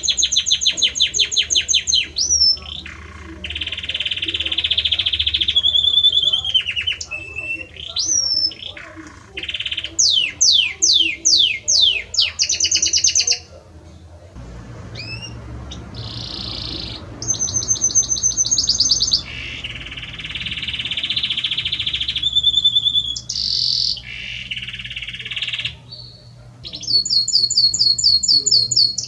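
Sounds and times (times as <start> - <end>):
canary singing trills: 0.0 - 13.7, 14.4 - 29.0.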